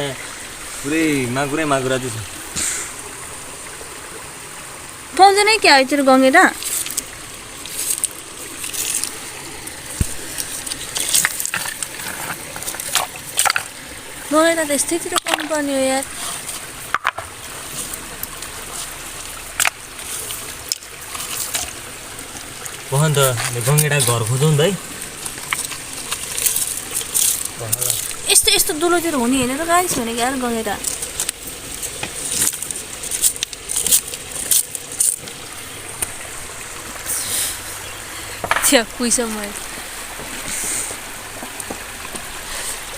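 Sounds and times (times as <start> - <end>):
shallow water running: 0.0 - 42.9
small splashes: 5.1 - 42.9.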